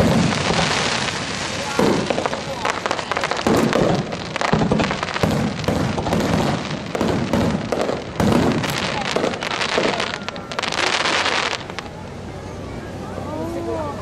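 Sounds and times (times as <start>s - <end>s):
fireworks booming: 0.0s - 12.3s
fireworks crackling: 0.0s - 14.0s.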